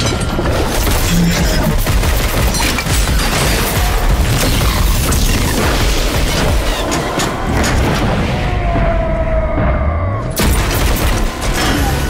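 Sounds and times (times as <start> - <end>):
booms crashes and blasts: 0.0 - 12.0
cinematic music: 0.0 - 12.0.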